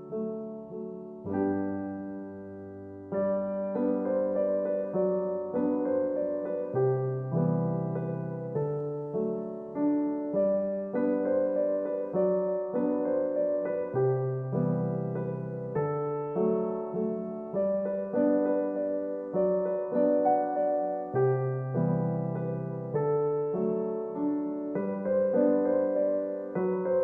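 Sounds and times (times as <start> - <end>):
gentle solo piano music: 0.0 - 27.0.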